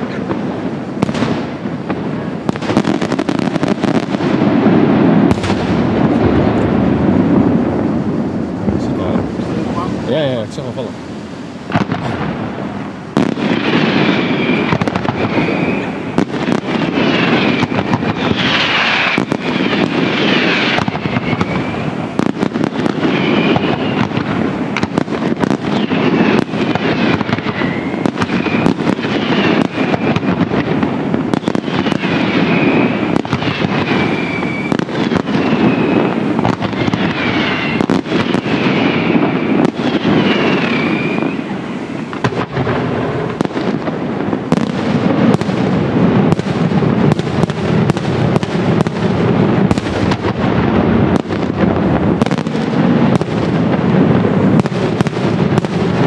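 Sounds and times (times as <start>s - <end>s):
firework whistles: 0.0s - 56.0s
fireworks bangs and crackling: 0.0s - 56.0s.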